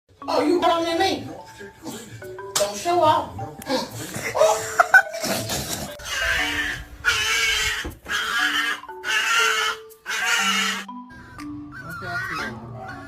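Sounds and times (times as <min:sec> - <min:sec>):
background music with held notes: 0:00.1 - 0:13.0.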